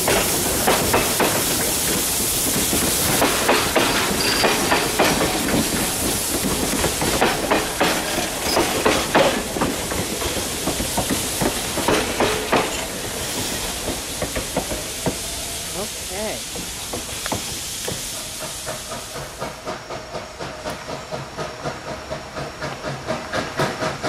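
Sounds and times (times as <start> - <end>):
steady hiss: 0.0 - 24.0
train wheels clacking over rail joints: 0.0 - 24.0.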